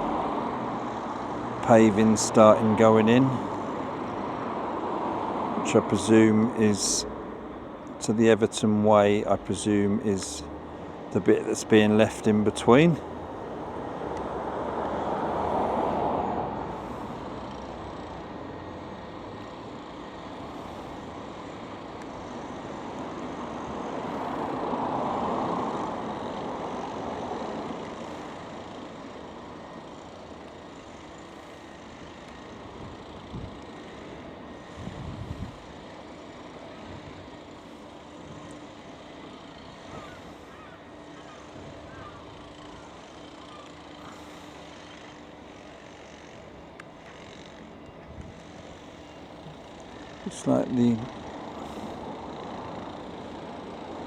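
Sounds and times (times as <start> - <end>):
traffic rumble: 0.0 - 54.0
vehicles passing: 0.0 - 54.0.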